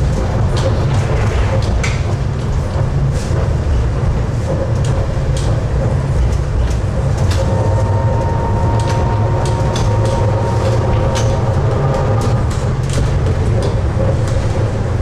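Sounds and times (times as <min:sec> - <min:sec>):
sharp clicks and knocks: 0:00.0 - 0:15.0
steady whine: 0:00.0 - 0:15.0
tram rumbling on rails: 0:00.0 - 0:15.0.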